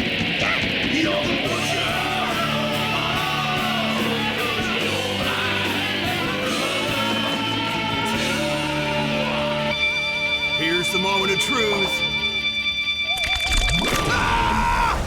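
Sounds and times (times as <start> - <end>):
electric guitar: 0.0 - 15.0
rock song with vocals: 0.0 - 15.0.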